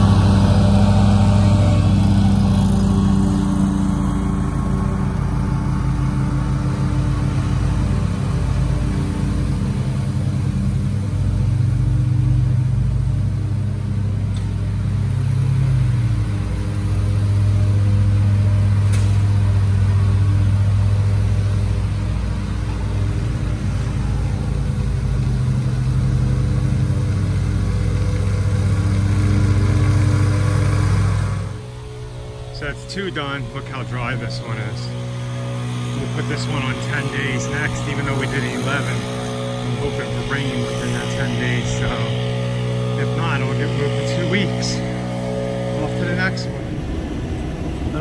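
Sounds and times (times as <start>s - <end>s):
mower engines droning: 0.0s - 48.0s.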